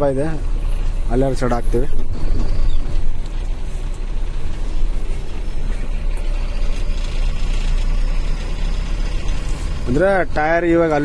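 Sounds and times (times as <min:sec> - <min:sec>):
road noise: 0:00.0 - 0:11.0
truck engine rumble: 0:00.0 - 0:11.0.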